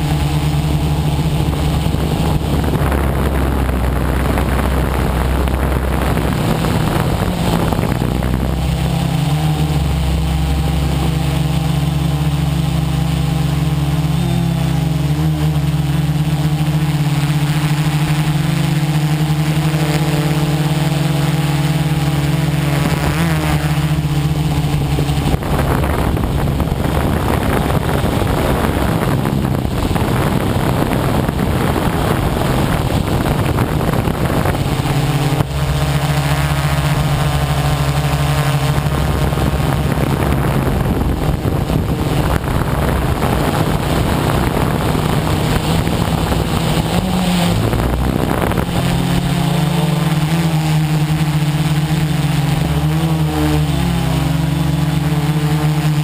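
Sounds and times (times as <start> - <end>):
quadcopter motors buzzing: 0.0 - 56.0.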